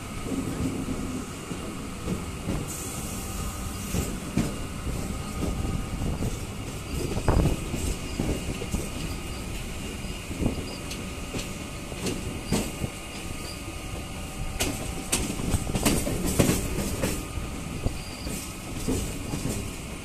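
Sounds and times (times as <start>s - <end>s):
train running rumble: 0.0s - 20.0s
wheels clacking over rail joints: 3.8s - 20.0s.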